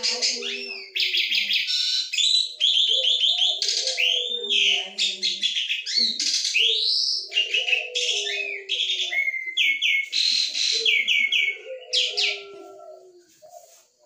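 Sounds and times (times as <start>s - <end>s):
starling singing chattering song: 0.0s - 12.5s.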